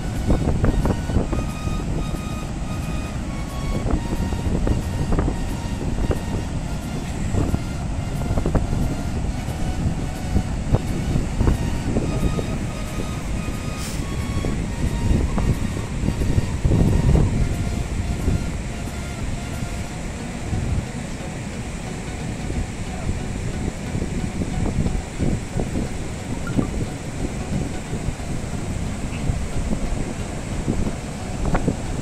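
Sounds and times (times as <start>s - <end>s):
ocean surf breaking on rock: 0.0s - 32.0s.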